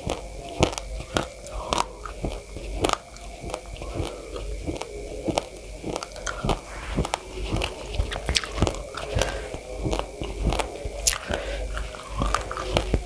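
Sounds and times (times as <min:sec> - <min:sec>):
chewing raw rice crunches: 0:00.0 - 0:13.0.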